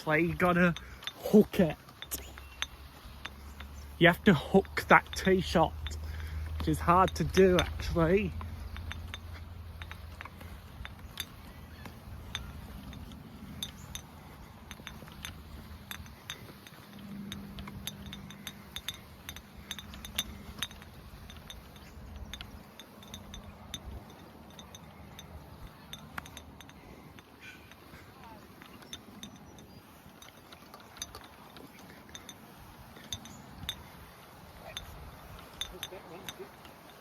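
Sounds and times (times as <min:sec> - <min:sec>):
golf clubs clinking: 0:00.0 - 0:37.0.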